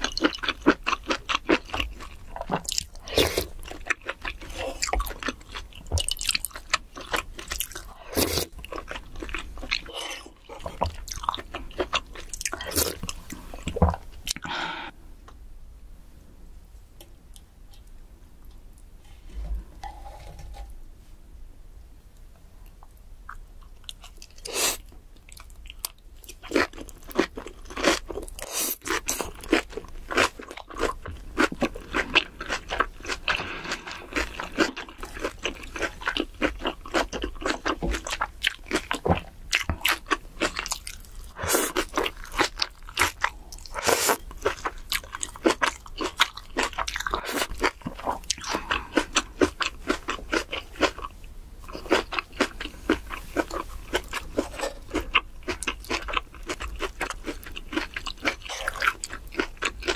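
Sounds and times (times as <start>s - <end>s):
crunchy wet chewing: 0.0s - 14.5s, 25.2s - 59.9s.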